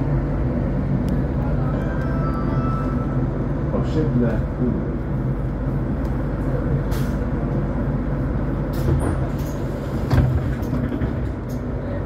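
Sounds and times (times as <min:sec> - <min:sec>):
trolleybus hum and rumble: 0:00.0 - 0:12.0.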